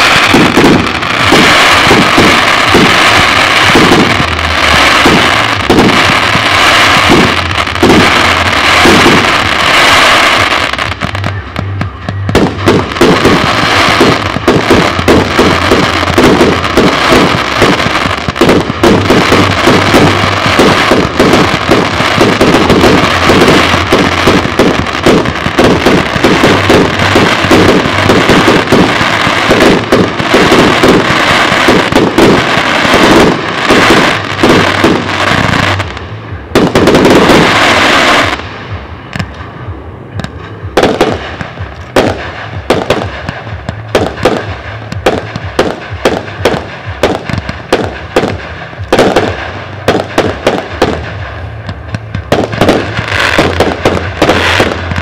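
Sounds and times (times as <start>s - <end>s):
fireworks bangs and crackle: 0.0s - 55.0s.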